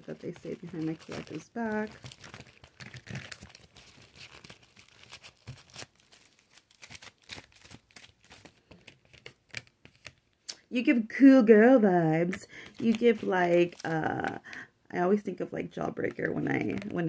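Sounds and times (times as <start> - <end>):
cards in plastic sleeves crinkling: 0.0 - 10.7, 12.3 - 14.7, 15.9 - 17.0.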